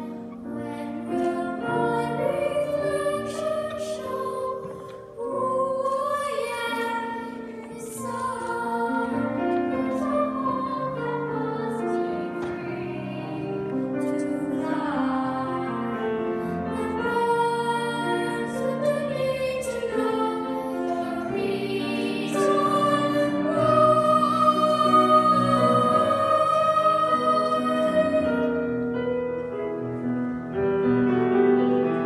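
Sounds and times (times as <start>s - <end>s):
girls singing in harmony: 0.0s - 29.5s.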